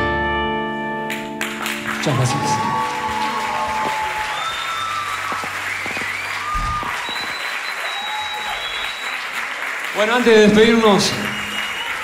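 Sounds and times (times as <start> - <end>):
audience applauding: 1.1 - 12.0.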